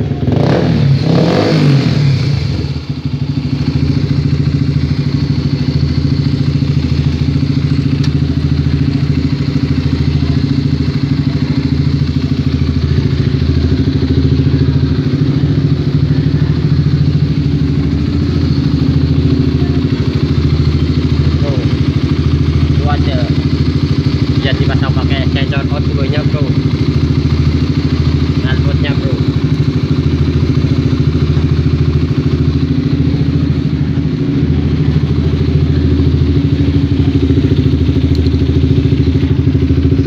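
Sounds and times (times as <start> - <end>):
motorcycle engine idling: 0.0 - 40.0
motorcycle engine revving: 0.0 - 40.0.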